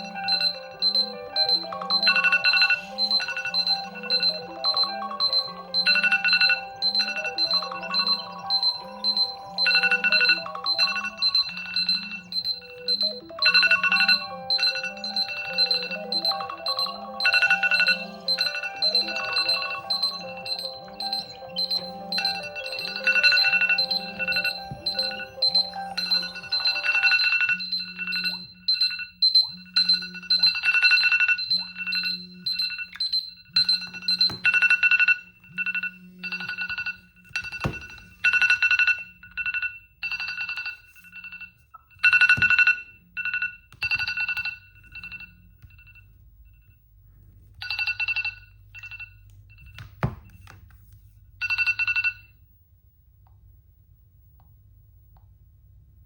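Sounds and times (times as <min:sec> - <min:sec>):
phone alarm beeping: 0:00.0 - 0:46.9, 0:47.6 - 0:50.6, 0:51.4 - 0:52.4.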